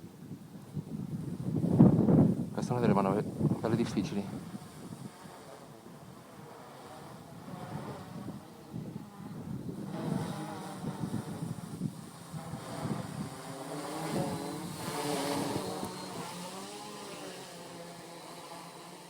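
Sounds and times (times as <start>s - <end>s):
wind gusts: 0.0s - 18.4s
drone motors whining: 1.1s - 19.0s.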